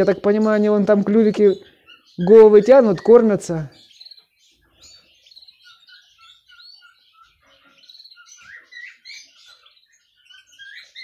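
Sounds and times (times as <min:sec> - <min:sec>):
canaries chirping faintly: 0:00.0 - 0:11.0.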